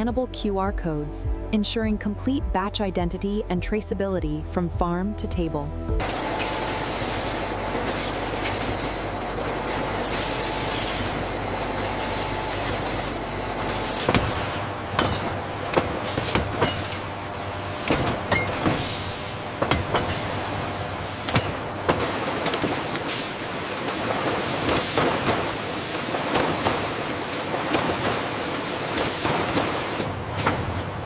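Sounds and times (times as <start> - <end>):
machinery low hum: 0.0 - 31.0.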